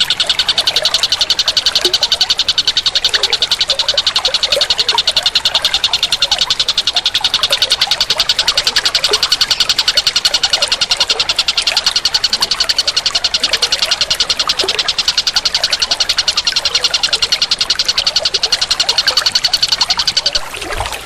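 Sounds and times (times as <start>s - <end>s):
pulsing animal trill: 0.0s - 21.0s.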